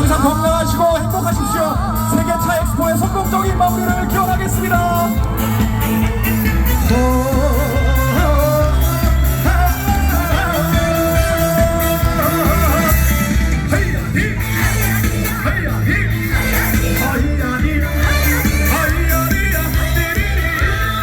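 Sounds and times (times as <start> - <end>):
live band music: 0.0 - 21.0
person singing: 0.0 - 21.0.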